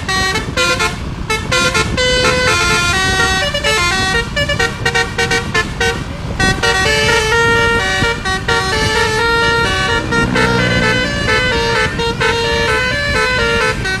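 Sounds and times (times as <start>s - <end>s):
bus engine running: 0.0s - 14.0s
multi-tone bus horn melody: 0.0s - 14.0s.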